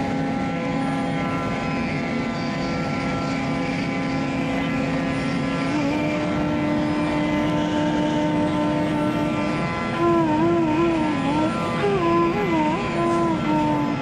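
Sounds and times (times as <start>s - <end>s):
flute holding long note: 0.0s - 14.0s.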